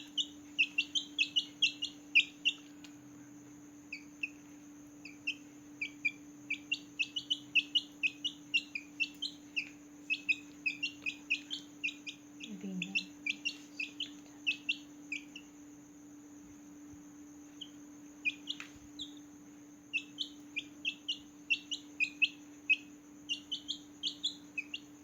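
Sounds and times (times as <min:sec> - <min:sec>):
chicks peeping: 0:00.0 - 0:03.0, 0:03.9 - 0:15.6, 0:17.5 - 0:19.3, 0:19.9 - 0:25.0
steady low hum: 0:00.0 - 0:25.0.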